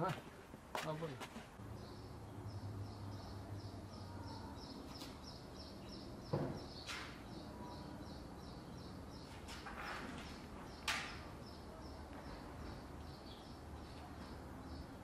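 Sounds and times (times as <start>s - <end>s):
bird chirping: 1.6s - 15.0s.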